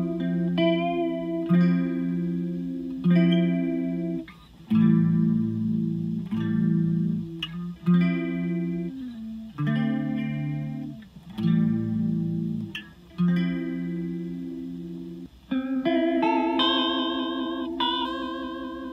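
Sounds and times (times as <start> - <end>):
electric guitar chords with chorus: 0.0 - 18.9.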